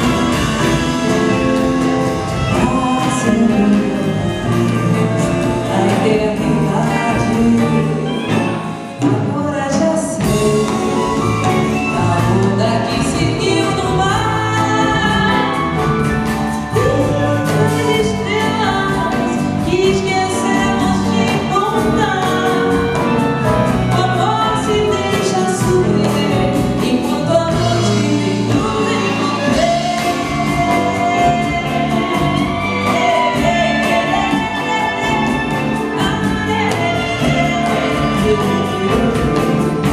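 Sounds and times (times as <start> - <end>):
orchestral accompaniment: 0.0 - 39.9
person singing: 0.0 - 39.9.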